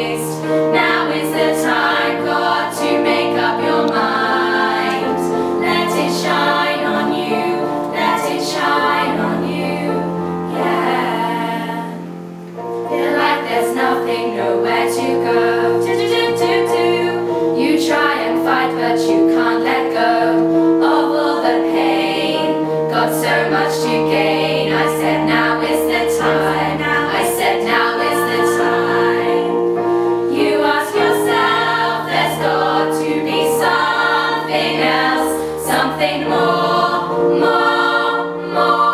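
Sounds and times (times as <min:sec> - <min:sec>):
choir singing held notes: 0:00.0 - 0:38.9.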